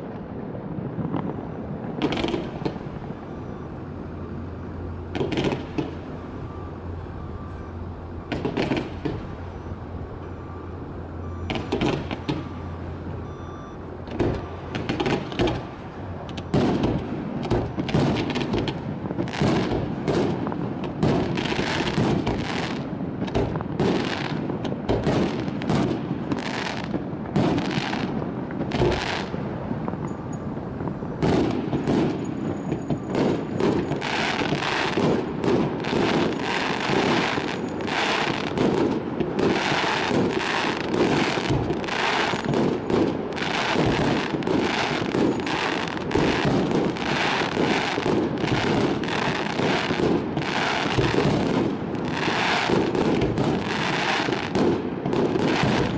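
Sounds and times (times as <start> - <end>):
fireworks bangs and crackles: 0.0 - 10.6, 11.2 - 55.9.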